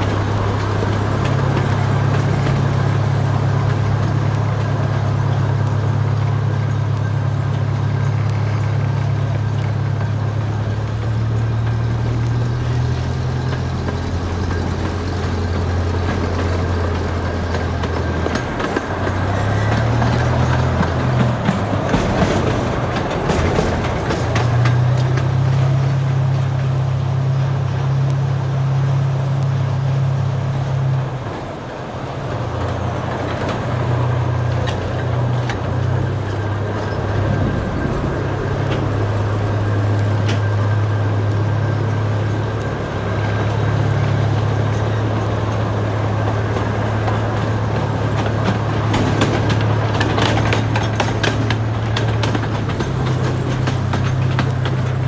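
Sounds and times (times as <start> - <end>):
locomotive low hum: 0.0 - 55.0
train wheels rolling on track: 0.0 - 55.0.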